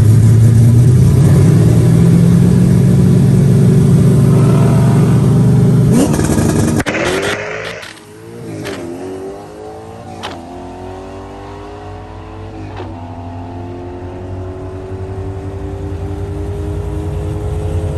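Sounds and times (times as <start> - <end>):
car engine accelerating hard: 0.0 - 17.9.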